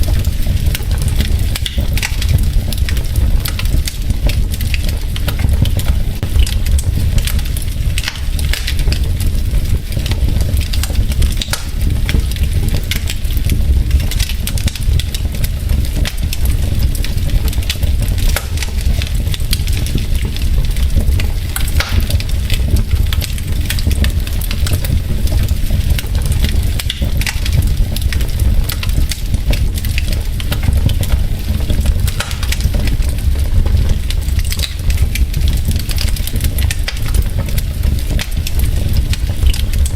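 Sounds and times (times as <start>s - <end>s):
logs crackling: 0.0s - 39.9s
low rumble of flames: 0.0s - 39.9s.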